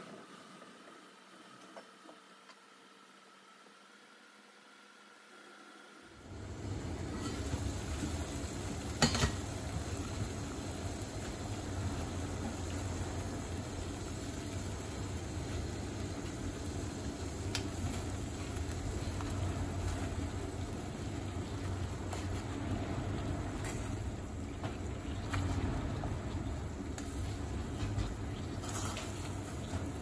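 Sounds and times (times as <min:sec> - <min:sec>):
water boiling in pot: 0:05.1 - 0:30.0.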